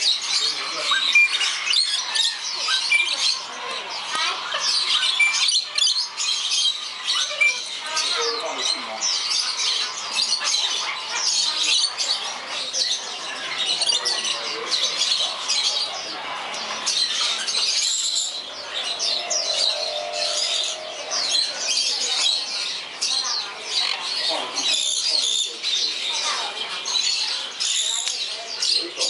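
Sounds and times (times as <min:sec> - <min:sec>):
parrots chirping and squawking: 0:00.0 - 0:29.0.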